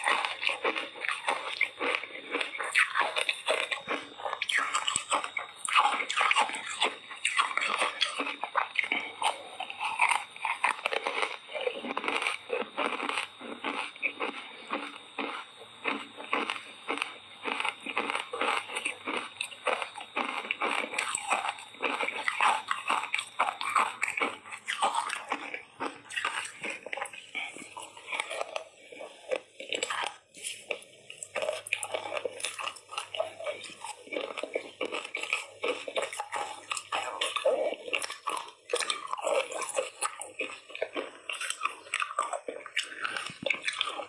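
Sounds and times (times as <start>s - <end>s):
ice crunching while chewed: 0.0s - 44.0s.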